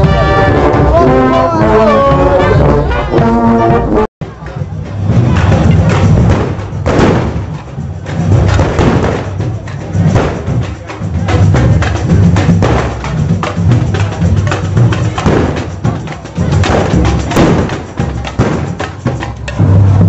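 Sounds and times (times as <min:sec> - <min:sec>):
marching band drums: 0:00.0 - 0:20.0.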